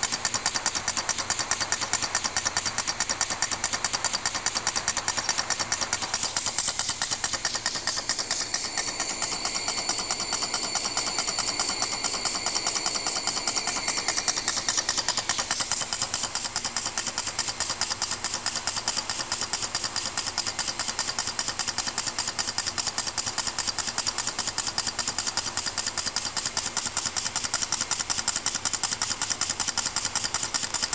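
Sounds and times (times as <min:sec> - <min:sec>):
model steam engine ticking: 0:00.0 - 0:30.9.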